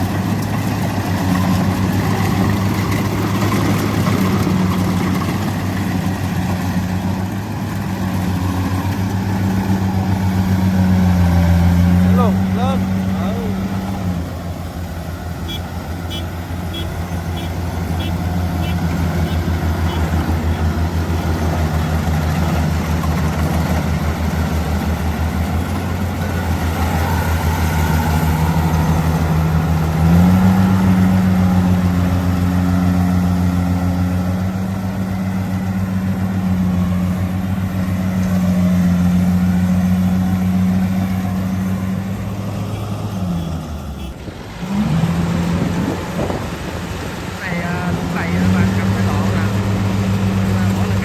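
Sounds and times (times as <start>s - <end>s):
harvester engine running: 0.0s - 51.0s.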